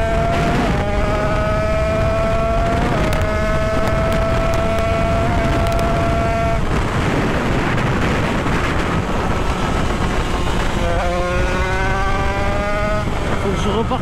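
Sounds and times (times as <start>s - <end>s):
two-stroke engine revving high: 0.0s - 14.0s
wind rush: 0.0s - 14.0s.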